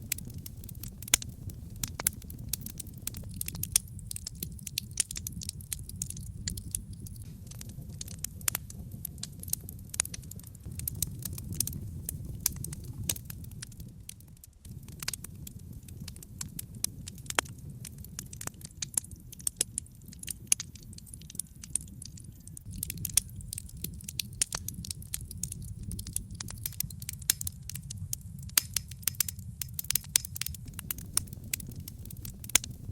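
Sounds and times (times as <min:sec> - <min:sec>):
logs crackling and popping: 0:00.0 - 0:32.9
low rumble of flames: 0:00.0 - 0:32.9.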